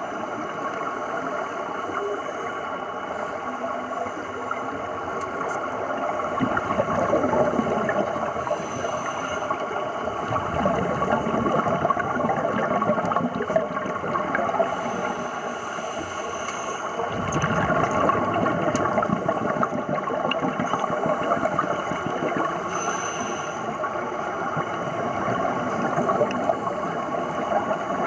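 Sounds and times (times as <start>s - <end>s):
underwater air bubbling: 0.0s - 28.0s.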